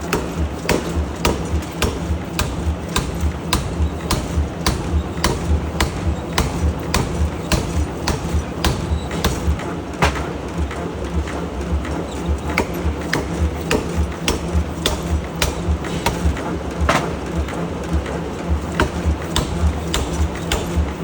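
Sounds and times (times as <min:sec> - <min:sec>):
forging hammer striking hot steel: 0:00.0 - 0:10.3, 0:12.5 - 0:17.2, 0:18.7 - 0:21.0
low machinery hum: 0:00.0 - 0:21.0.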